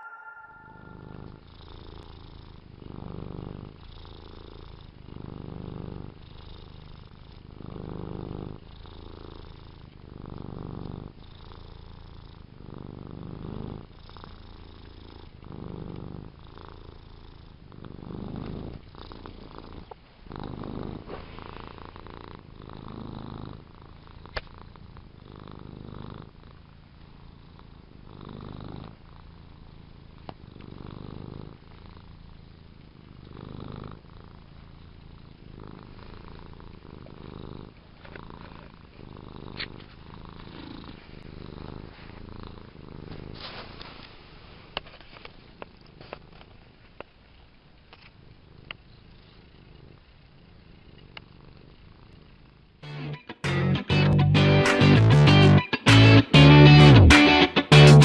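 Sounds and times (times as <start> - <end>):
cat purring: 0.0 - 53.3.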